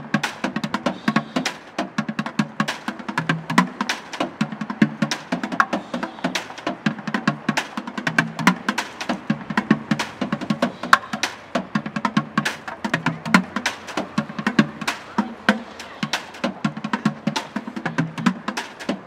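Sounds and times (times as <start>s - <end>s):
bucket drumming: 0.0s - 19.0s.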